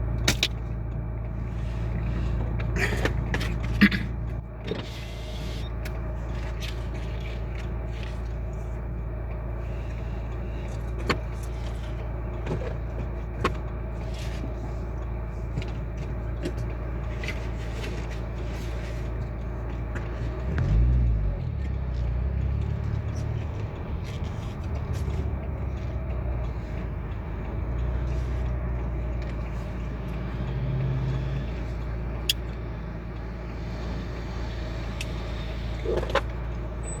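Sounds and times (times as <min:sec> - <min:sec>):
car engine and road noise: 0:00.0 - 0:37.0.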